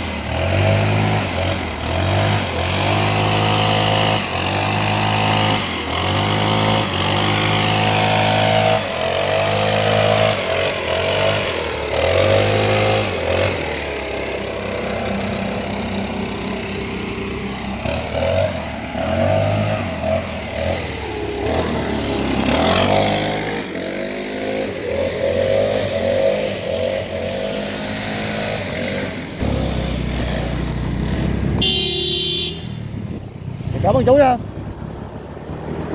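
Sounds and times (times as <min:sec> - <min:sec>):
leaf blower engine revving: 0:00.0 - 0:35.9.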